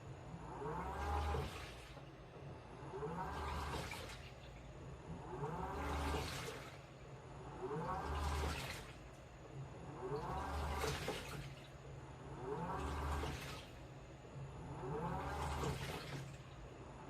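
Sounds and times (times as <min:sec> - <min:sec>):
low motor hum: 0:00.0 - 0:17.0
water sloshing in drum: 0:00.2 - 0:17.0.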